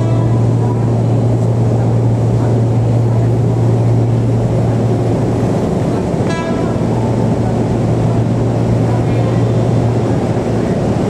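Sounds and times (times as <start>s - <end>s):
low machine hum: 0.0s - 11.0s
rumbling noise: 0.0s - 11.0s.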